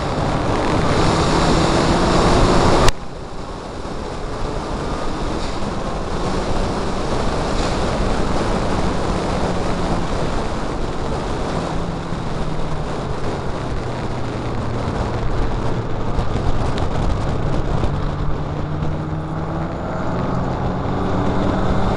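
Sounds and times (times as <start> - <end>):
car engine: 0.0 - 21.9
wind rush and road noise: 0.0 - 21.9.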